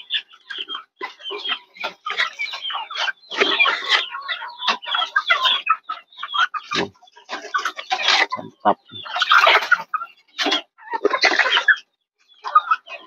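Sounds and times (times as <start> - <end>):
chickens clucking and chirping: 0.0 - 13.0.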